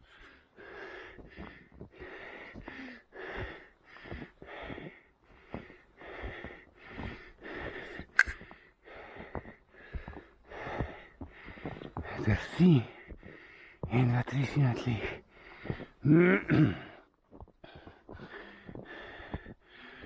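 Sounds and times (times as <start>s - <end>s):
runner breathing hard: 0.0s - 12.1s, 12.9s - 13.9s, 15.2s - 16.0s, 17.6s - 20.0s.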